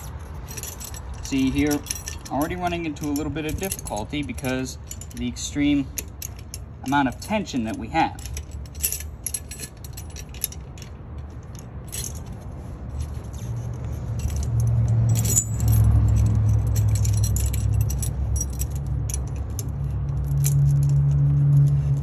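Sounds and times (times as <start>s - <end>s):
chain links clinking and rattling: 0.0s - 22.0s.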